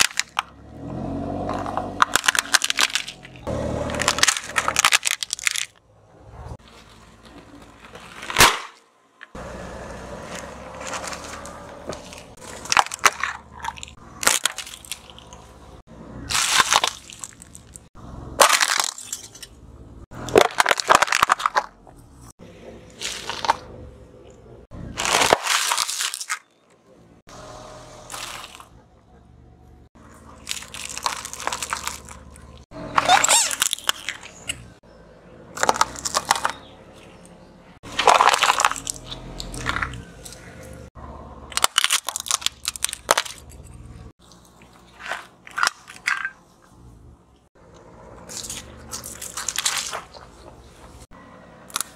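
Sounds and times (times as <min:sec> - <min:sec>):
car tyre crushing objects: 0:00.0 - 0:28.8, 0:30.0 - 0:51.9.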